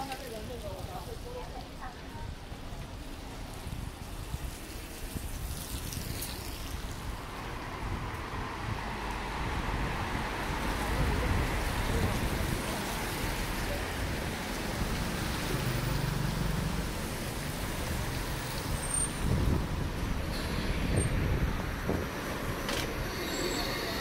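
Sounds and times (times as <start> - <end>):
traffic on a wet street: 0.0 - 24.0.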